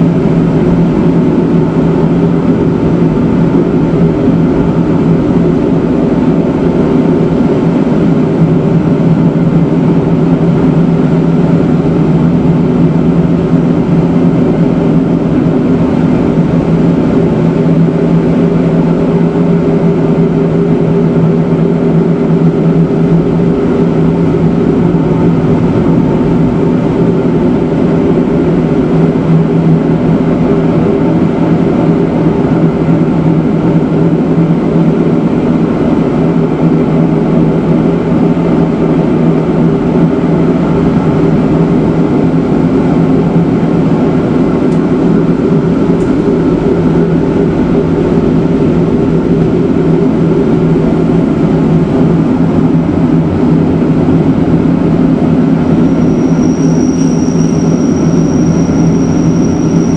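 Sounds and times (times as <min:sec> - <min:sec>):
train motors and wheels humming: 0:00.0 - 0:59.9.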